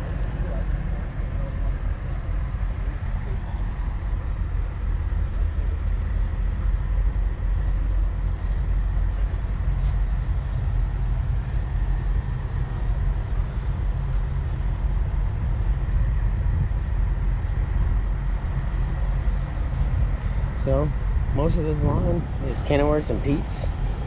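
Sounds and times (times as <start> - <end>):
engines idling: 0.0 - 24.0.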